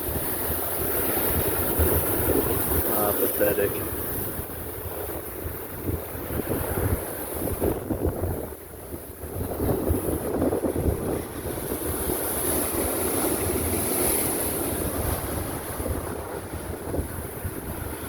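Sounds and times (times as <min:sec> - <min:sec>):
ocean waves breaking: 0:00.0 - 0:18.0
wind buffeting microphone: 0:00.0 - 0:18.0.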